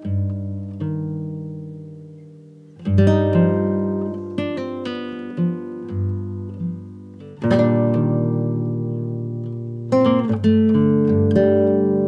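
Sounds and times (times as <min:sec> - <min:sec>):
acoustic guitar strumming and plucking: 0:00.0 - 0:12.0.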